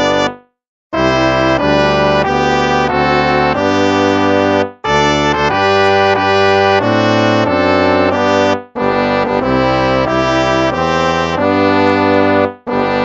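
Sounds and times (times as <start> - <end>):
brass instruments playing a hymn: 1.0 - 13.0.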